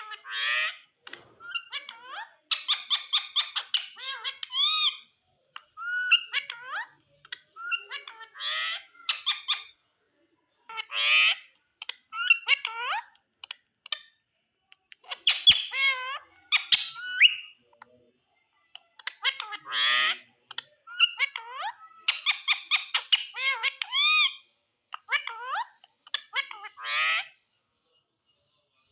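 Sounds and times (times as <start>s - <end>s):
parrot squawking and chattering: 0.0s - 9.9s, 10.6s - 17.9s, 18.5s - 27.5s.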